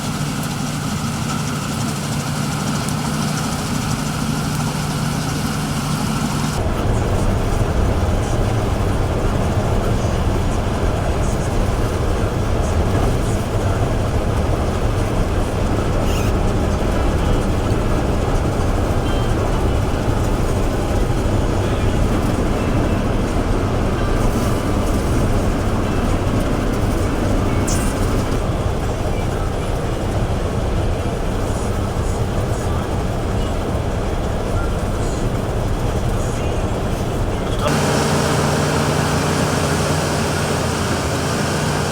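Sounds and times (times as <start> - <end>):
harvest machinery rumble: 0.0 - 41.9.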